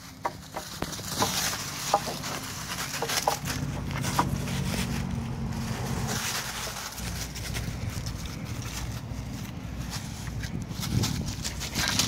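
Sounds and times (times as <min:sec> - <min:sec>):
dry leaves rustling and crunching: 0:00.0 - 0:12.0
low engine hum: 0:00.0 - 0:12.0.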